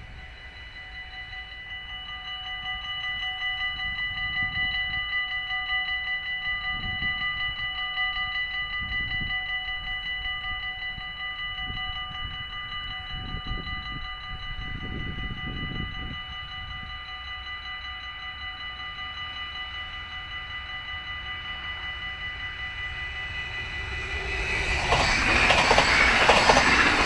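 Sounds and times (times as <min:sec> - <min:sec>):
level crossing warning bells: 0:00.0 - 0:27.0.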